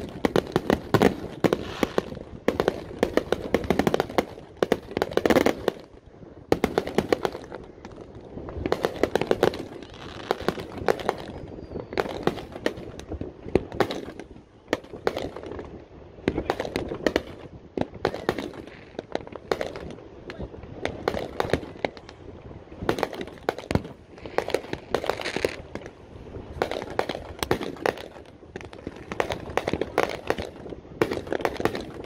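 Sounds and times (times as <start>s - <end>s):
fireworks popping and crackling: 0.0s - 32.0s.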